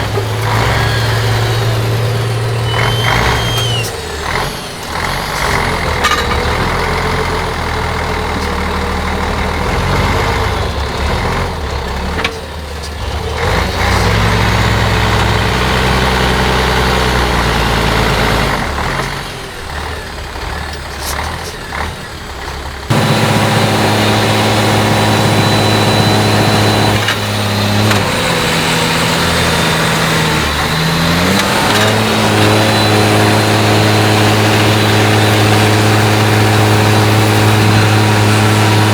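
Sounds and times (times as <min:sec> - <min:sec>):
truck diesel engine under load: 0:00.0 - 0:38.9.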